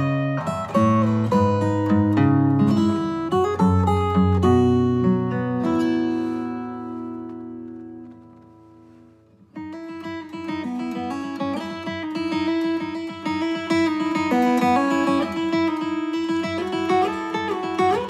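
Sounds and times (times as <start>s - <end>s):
fingerpicked acoustic guitar: 0.0s - 18.0s.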